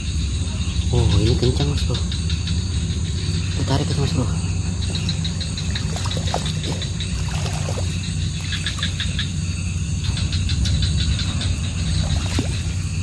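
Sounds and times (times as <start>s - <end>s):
insects chirping: 0.0s - 13.0s
steady low hum: 0.0s - 13.0s.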